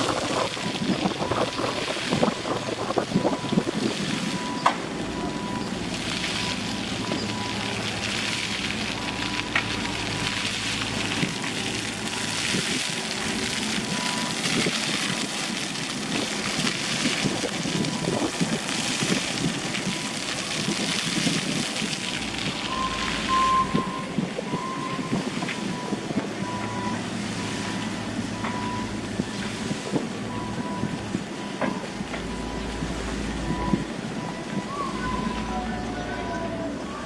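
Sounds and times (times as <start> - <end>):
traffic noise: 0.0 - 37.0
wind: 0.0 - 37.0.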